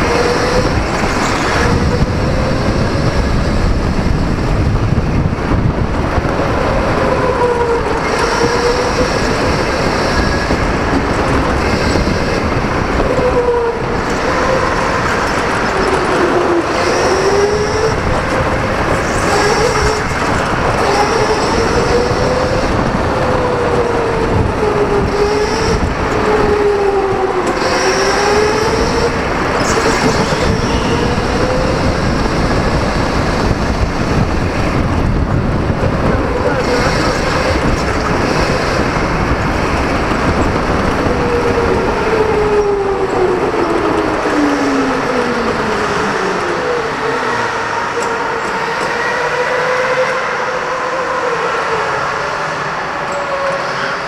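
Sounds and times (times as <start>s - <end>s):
electric go-kart motor whine: 0.0s - 54.0s.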